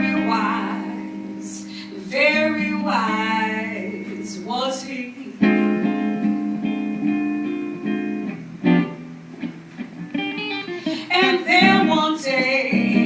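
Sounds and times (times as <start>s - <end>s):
jazz ballad chords: 0.0s - 13.0s.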